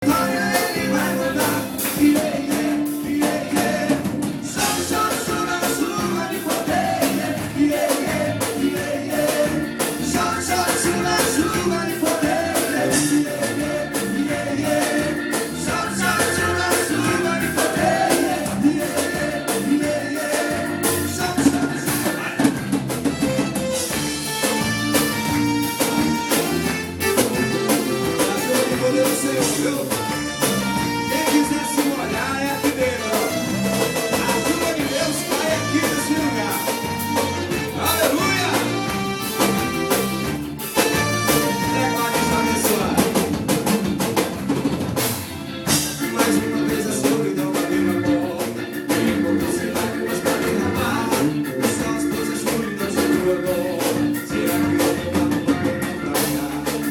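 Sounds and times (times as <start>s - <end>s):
drums and hand percussion: 0.0s - 56.9s
gospel band playing: 0.0s - 56.9s.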